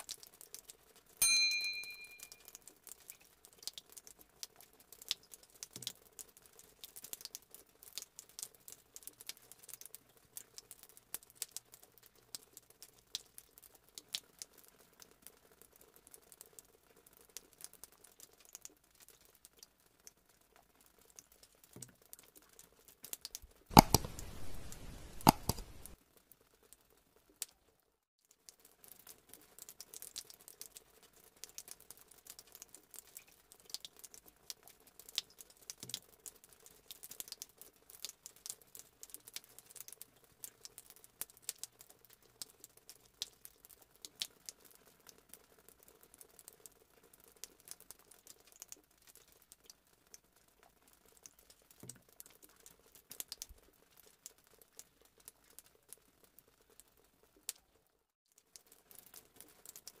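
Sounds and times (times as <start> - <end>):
hot oil crackling in a wok: 0.0 - 60.0.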